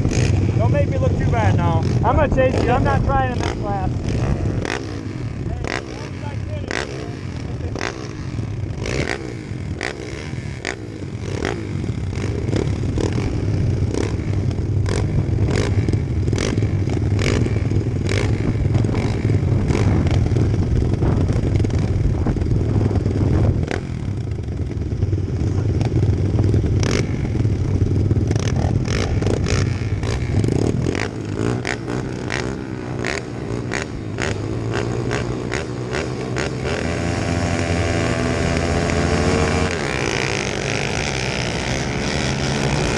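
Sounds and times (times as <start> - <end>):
pit bike engines running: 0.0 - 42.9.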